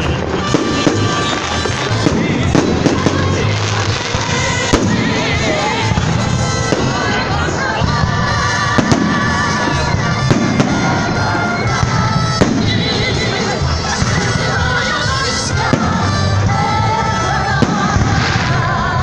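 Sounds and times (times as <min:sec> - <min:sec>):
fireworks bangs: 0:00.0 - 0:19.0
loud music: 0:00.0 - 0:19.0.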